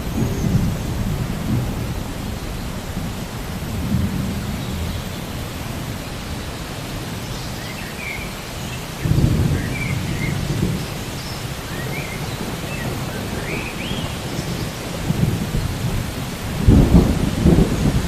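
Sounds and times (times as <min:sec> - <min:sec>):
thunder rumble: 0:00.0 - 0:06.5, 0:09.0 - 0:18.0
steady rain: 0:00.0 - 0:18.0.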